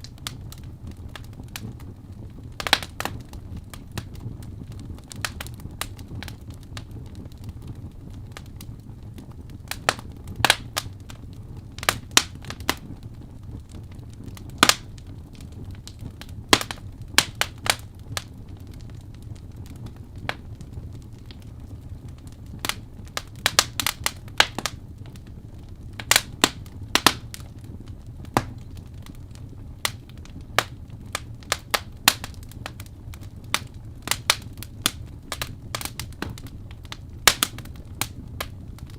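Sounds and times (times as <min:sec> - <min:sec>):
low steady rumble: 0:00.0 - 0:38.9
wood fire crackling: 0:00.0 - 0:38.9.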